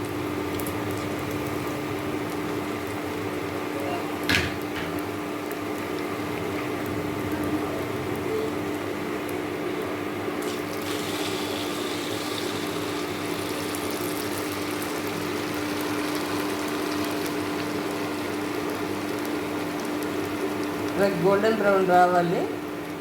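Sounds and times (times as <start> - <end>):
batter balls sizzling in hot oil: 0.0 - 23.0.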